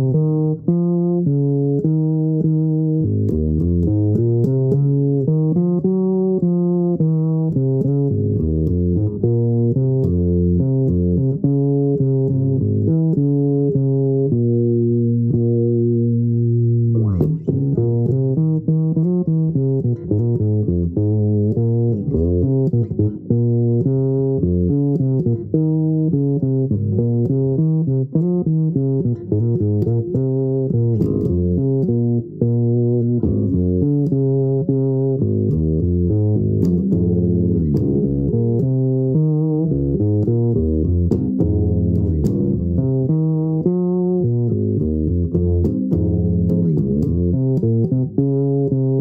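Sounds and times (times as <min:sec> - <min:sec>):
fretless bass played fingerstyle: 0:00.0 - 0:49.0.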